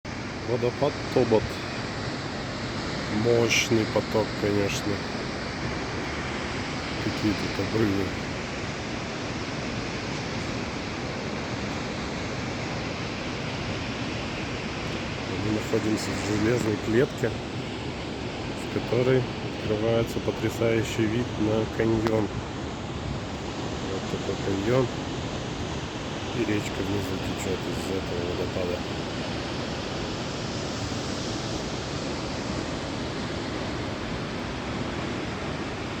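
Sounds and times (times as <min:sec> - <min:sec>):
waterfall rushing: 0:00.1 - 0:36.0.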